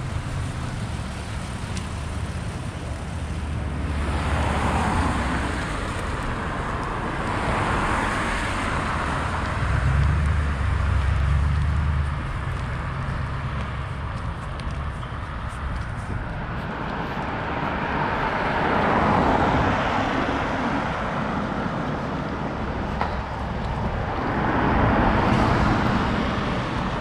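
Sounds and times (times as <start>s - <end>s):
car tyre noise passing: 0.0s - 27.0s.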